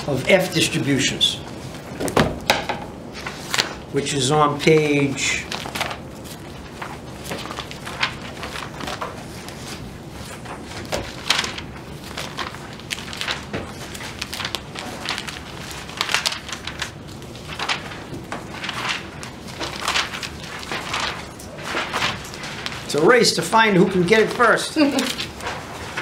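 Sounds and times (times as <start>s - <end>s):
pages rustling: 0.0s - 26.0s.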